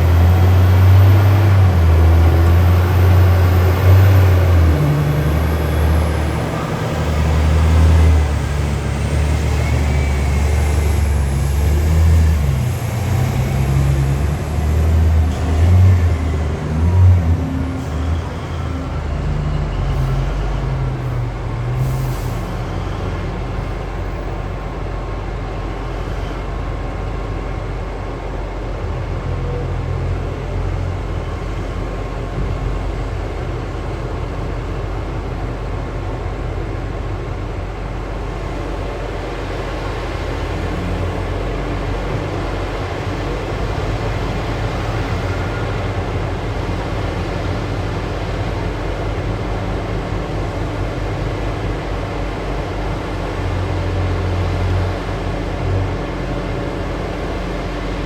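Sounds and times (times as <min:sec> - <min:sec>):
heavy diesel engines rumbling: 0:00.0 - 0:58.0.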